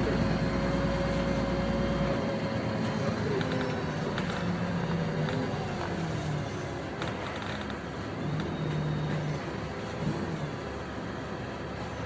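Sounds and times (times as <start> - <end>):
bus engine and road noise: 0.0 - 12.0
drivetrain whine: 0.0 - 12.0.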